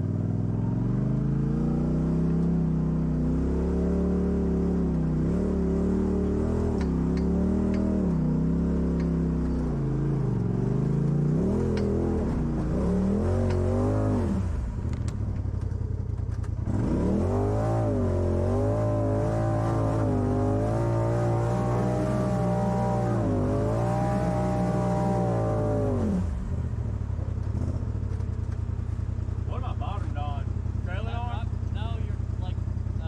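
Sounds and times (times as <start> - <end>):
off-road engine revving: 0.0 - 33.0.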